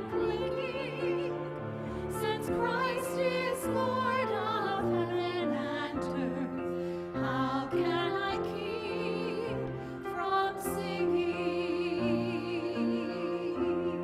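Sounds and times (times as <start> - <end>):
voices singing a hymn: 0.0 - 14.0.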